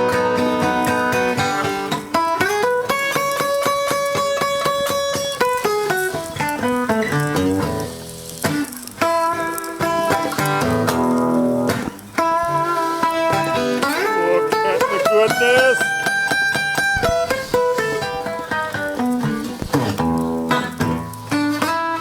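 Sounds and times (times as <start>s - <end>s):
blues-country guitar playing: 0.4s - 21.6s.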